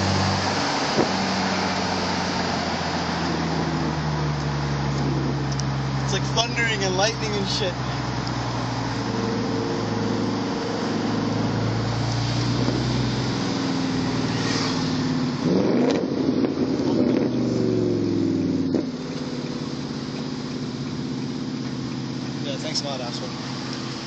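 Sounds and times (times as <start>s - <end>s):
car engine drone: 0.0s - 24.0s
rising exhaust note: 0.0s - 24.0s.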